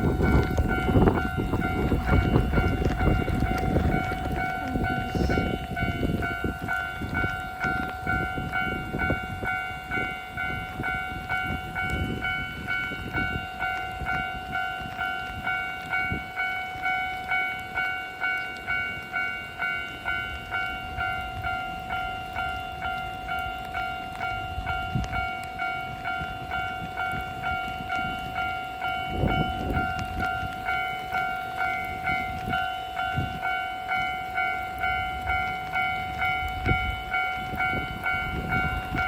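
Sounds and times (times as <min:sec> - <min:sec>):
crossing warning bell ding: 0:00.0 - 0:39.0
train rumbling: 0:00.0 - 0:39.0.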